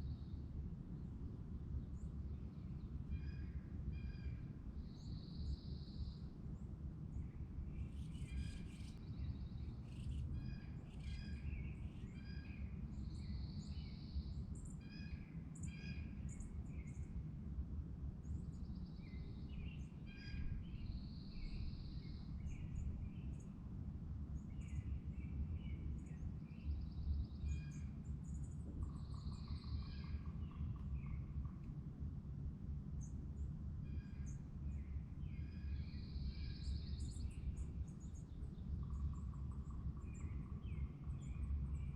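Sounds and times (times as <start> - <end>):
songbirds singing: 1.8 - 17.3, 18.2 - 31.8, 32.9 - 41.9.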